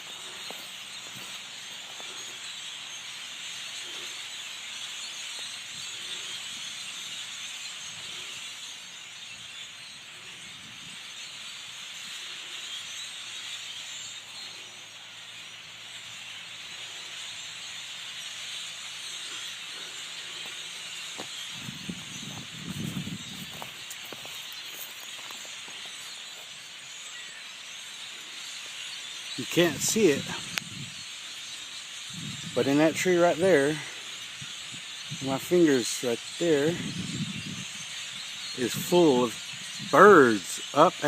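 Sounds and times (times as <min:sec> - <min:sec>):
flock of birds chattering: 0:00.0 - 0:41.0.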